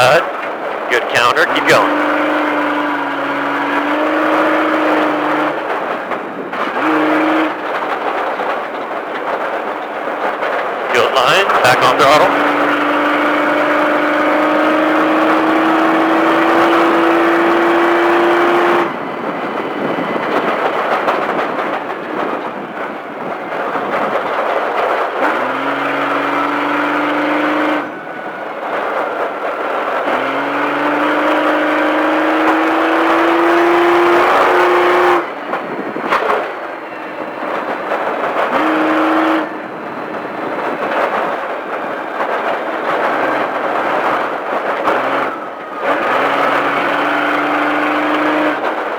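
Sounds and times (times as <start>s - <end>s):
truck engine under throttle: 0.0s - 48.9s.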